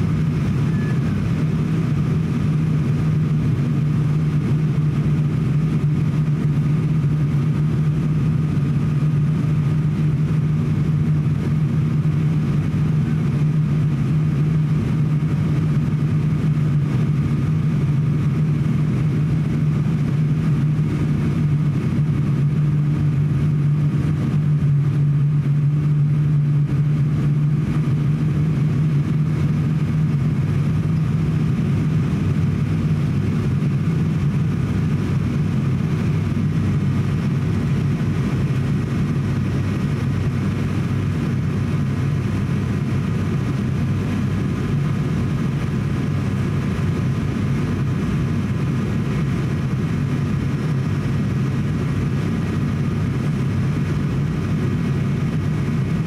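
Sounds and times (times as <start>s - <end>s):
aircraft engine and air noise: 0.0s - 56.0s
deep propeller hum: 0.0s - 56.0s.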